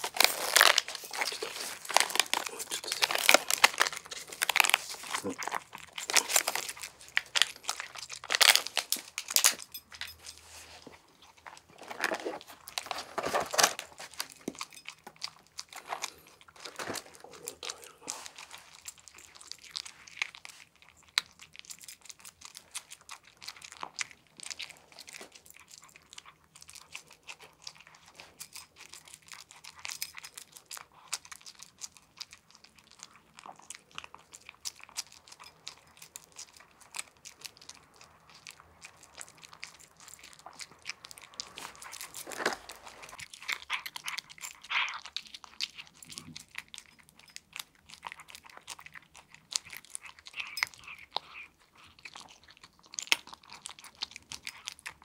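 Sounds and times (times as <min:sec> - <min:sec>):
cat crunching dry kibble: 0:00.0 - 0:55.0.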